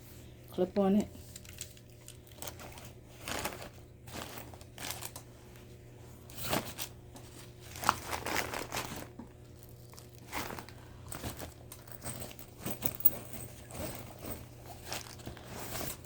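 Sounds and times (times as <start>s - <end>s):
bag contents crinkling and rustling: 1.2s - 16.0s.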